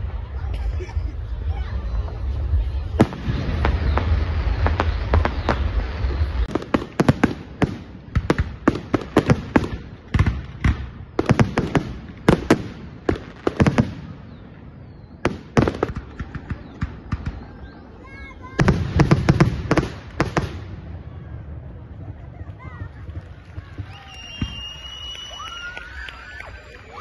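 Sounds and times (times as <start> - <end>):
fireworks bursting with sharp bangs: 0.0 - 25.4.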